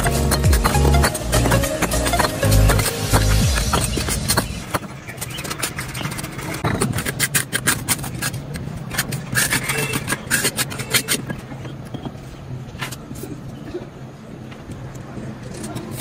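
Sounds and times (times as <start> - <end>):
sharp scrapes and taps: 0.0 - 13.4.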